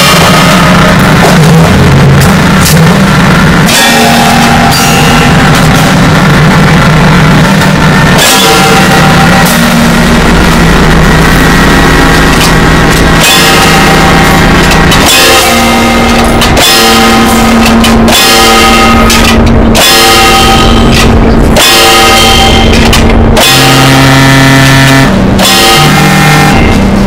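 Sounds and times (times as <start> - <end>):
distorted harsh noise music: 0.0 - 27.0.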